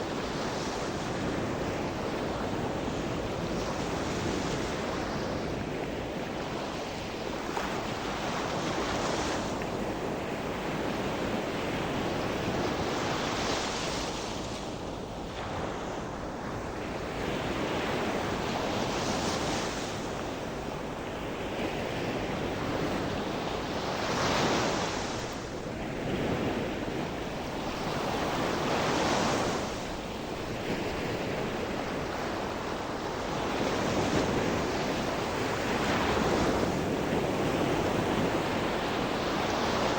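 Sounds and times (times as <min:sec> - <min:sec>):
waves breaking on shore: 0:00.0 - 0:39.9
wind on microphone: 0:00.0 - 0:39.9.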